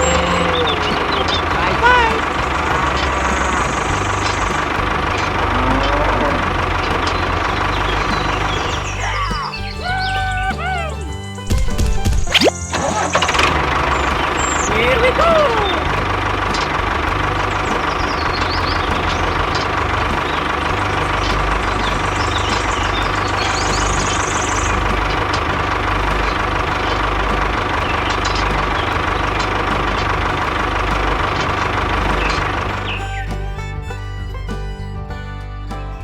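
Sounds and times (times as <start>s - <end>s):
engine idling with knocking beat: 0.0s - 36.0s
steady whine: 0.0s - 36.0s.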